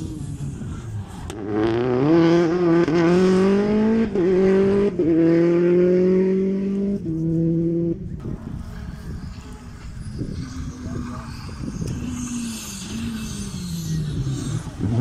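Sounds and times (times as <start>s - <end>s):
car engine accelerating hard: 0.0s - 8.5s, 10.6s - 15.0s.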